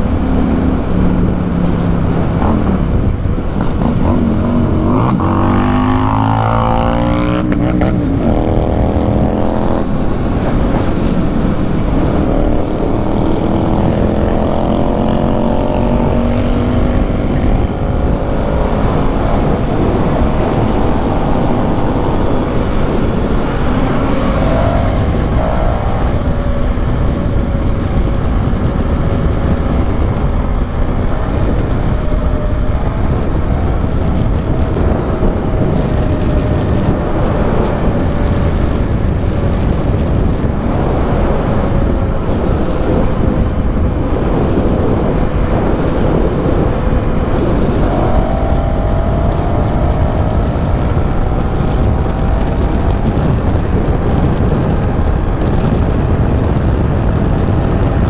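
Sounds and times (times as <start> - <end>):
loud four-cylinder motorcycle: 0.0 - 58.0
wind rush: 0.0 - 58.0.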